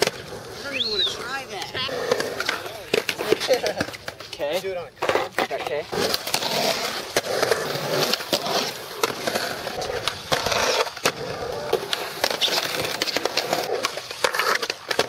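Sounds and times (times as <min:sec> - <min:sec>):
skateboard clacking on ground: 0:00.0 - 0:15.0
skateboard wheels rolling on concrete: 0:00.0 - 0:15.0.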